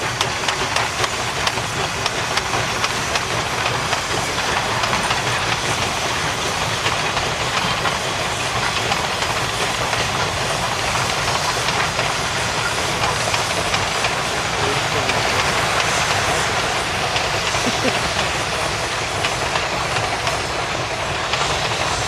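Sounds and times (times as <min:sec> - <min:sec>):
steam train rolling rumble: 0:00.0 - 0:22.0
wheels clacking over rail joints: 0:00.0 - 0:22.0.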